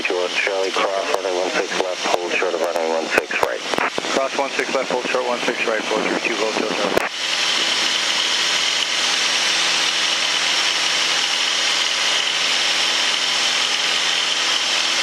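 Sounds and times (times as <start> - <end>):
airplane engine and propeller droning: 0.0 - 15.0.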